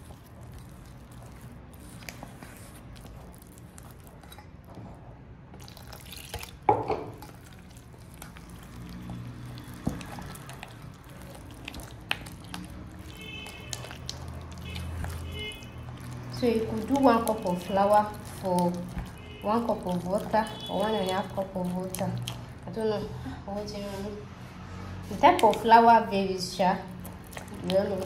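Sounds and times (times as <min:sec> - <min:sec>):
spatula squelching dough in bowl: 0:00.0 - 0:24.2, 0:24.8 - 0:28.0.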